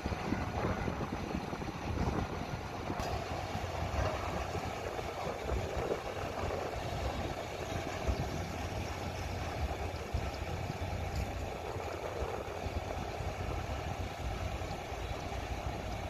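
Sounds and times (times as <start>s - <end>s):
heavy machinery diesel engines: 0.0s - 16.0s.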